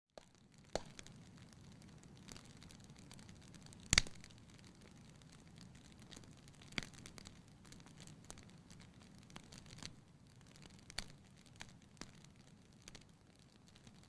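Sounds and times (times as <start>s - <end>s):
wood fire crackling: 0.1s - 14.0s.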